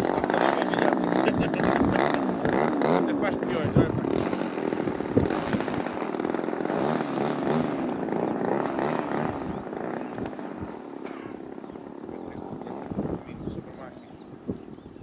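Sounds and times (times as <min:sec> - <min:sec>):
model plane engine in flight: 0:00.0 - 0:15.0.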